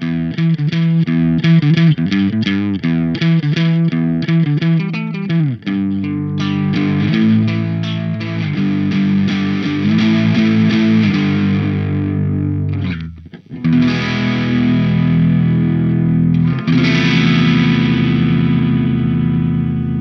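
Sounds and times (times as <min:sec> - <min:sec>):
overdriven electric guitar chords: 0:00.0 - 0:20.0.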